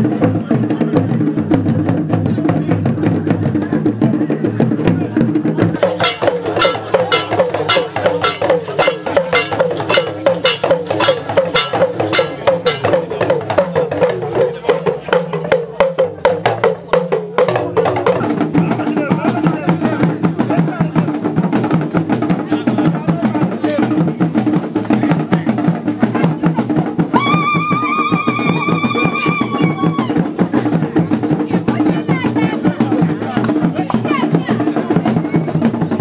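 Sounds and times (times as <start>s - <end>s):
hand drums beating fast rhythm: 0.0s - 36.0s
voices: 0.1s - 36.0s.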